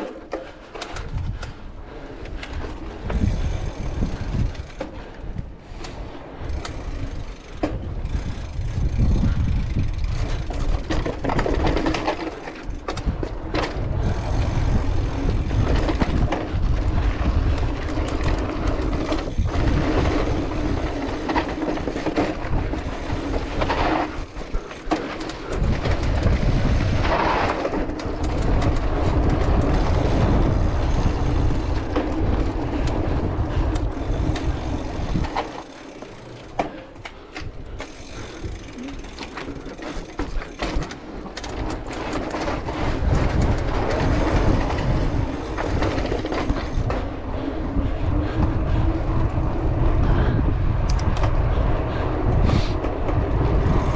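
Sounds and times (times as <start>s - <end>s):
bike rattling and knocking: 0.0s - 53.9s
wind buffeting microphone: 0.4s - 53.9s.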